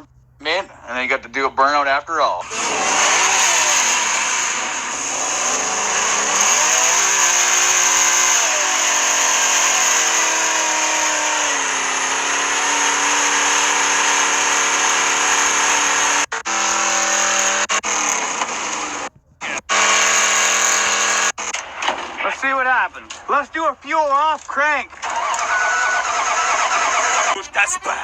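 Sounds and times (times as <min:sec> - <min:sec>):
spinning tyres hissing: 0:00.0 - 0:22.2, 0:25.0 - 0:28.0
diesel engine revving: 0:00.0 - 0:28.0.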